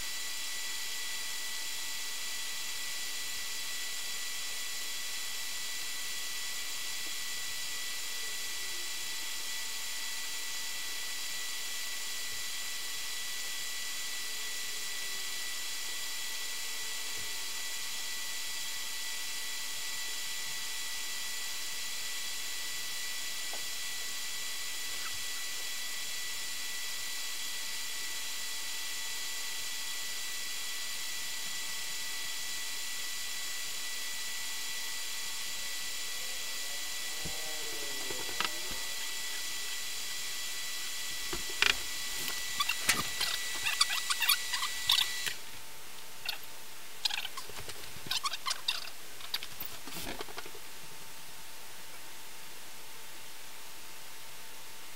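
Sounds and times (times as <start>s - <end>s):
faint high whine tones: 0.0s - 54.9s.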